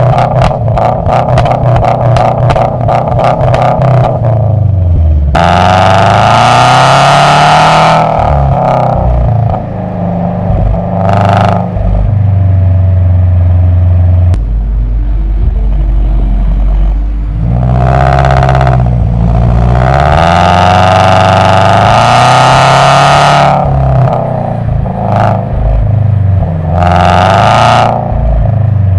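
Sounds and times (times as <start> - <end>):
car exhaust revving: 0.0 - 28.9.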